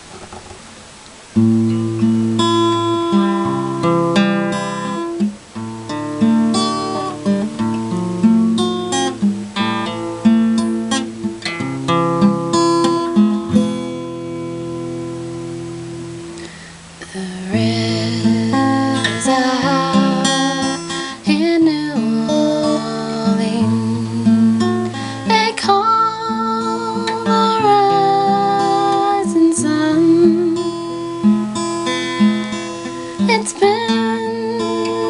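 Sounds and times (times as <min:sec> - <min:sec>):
acoustic guitar picking: 0:00.0 - 0:35.0.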